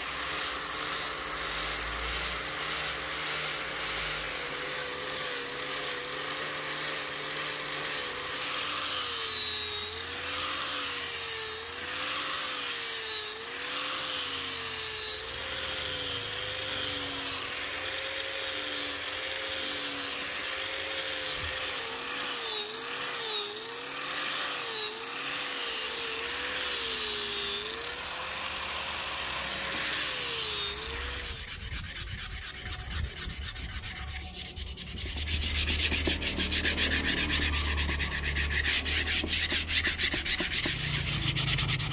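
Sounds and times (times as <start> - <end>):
angle grinder sanding wood: 0.0 - 41.9
hand sanding strokes: 0.0 - 41.9.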